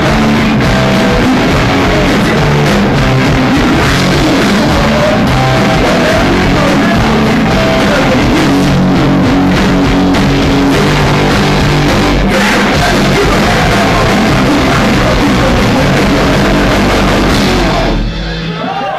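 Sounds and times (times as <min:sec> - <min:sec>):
person singing into microphone: 0:00.0 - 0:09.4, 0:10.7 - 0:18.0
drum kit: 0:00.0 - 0:18.9
electric guitars: 0:00.0 - 0:18.9.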